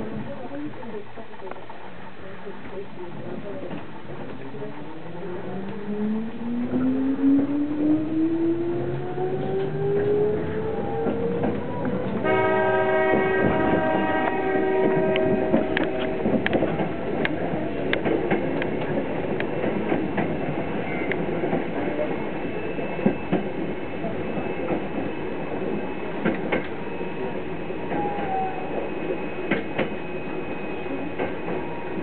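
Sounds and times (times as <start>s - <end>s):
train car running rumble: 0.0s - 32.0s.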